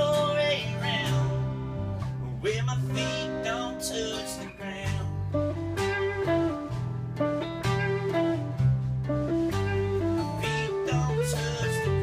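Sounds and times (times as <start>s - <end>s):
acoustic guitars strumming: 0.0s - 12.0s
steady low notes: 0.0s - 12.0s.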